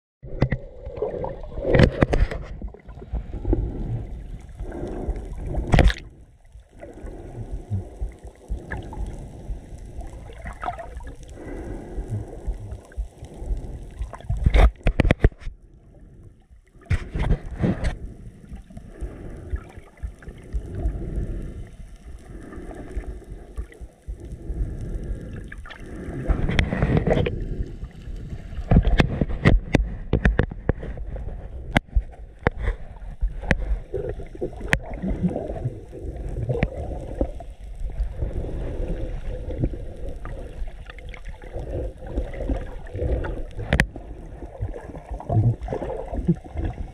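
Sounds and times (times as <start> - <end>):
muffled underwater water rumble: 0.2 - 46.9.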